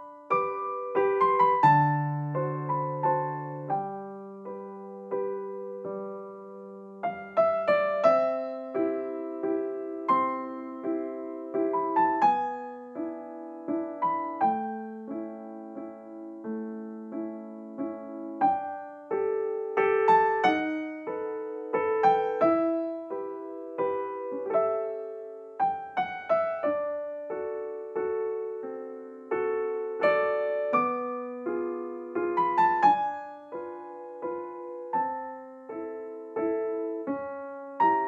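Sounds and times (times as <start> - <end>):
gentle piano music: 0.0 - 38.0.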